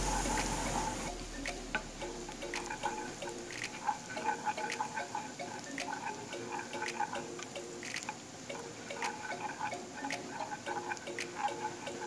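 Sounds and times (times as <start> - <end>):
garlic frying in oil: 0.0 - 12.0
plucked instrumental music: 0.0 - 12.0.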